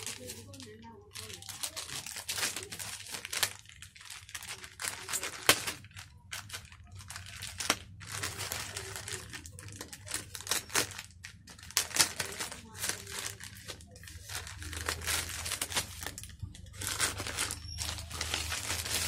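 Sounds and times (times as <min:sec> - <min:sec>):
plastic bag crinkling: 0:00.0 - 0:19.0
sharp plastic crack: 0:00.0 - 0:19.0.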